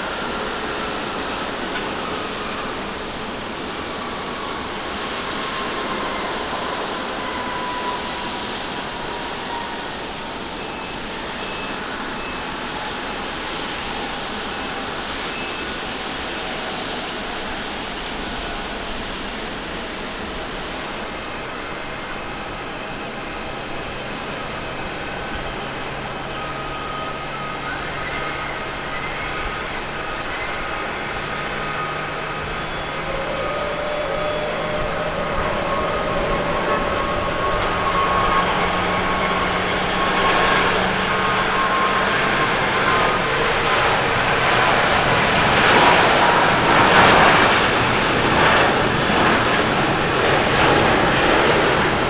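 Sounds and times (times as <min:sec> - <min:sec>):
jet airliner engines rushing: 0:00.0 - 0:52.0.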